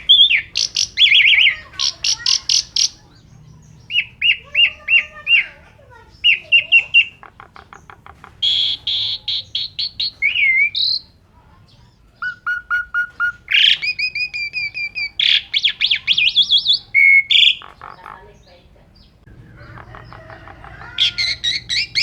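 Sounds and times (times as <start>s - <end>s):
starling singing: 0.0s - 22.0s.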